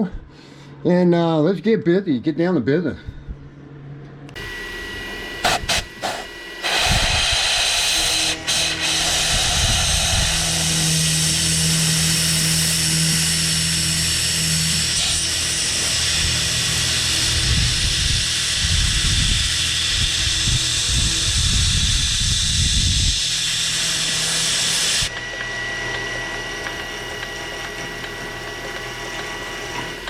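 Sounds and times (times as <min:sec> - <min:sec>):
machine tool motor humming: 0:04.3 - 0:30.0.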